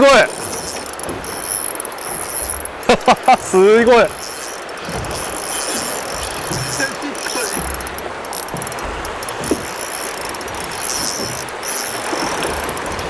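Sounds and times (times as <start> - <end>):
fishing reel ticking: 0.0 - 13.0
wind and water rushing: 0.0 - 13.0.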